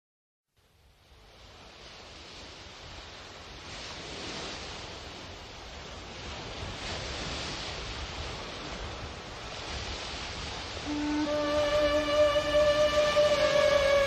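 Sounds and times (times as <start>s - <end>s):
sea surf washing: 1.0s - 14.0s.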